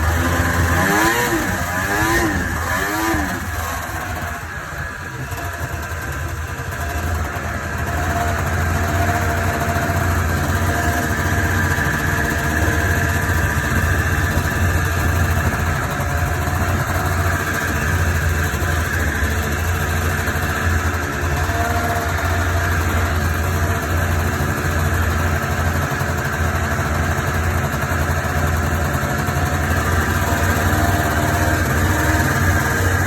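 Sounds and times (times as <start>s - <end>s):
snowmobile engine running: 0.0s - 33.0s.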